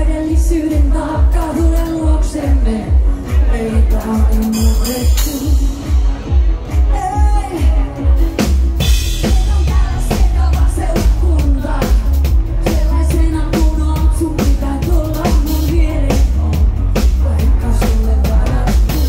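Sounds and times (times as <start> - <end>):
woman singing into a microphone: 0.0 - 6.0, 6.7 - 19.0
heavy bass: 0.0 - 19.0
pounding kick-drum beat: 0.0 - 19.0.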